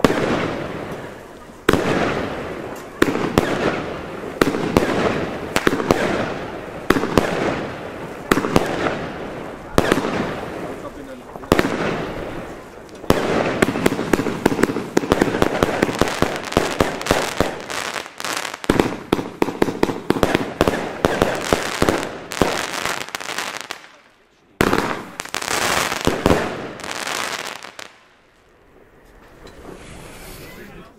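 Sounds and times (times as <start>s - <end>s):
firework shots and crackle: 0.0s - 28.2s
firework crackling and hissing: 0.0s - 30.9s.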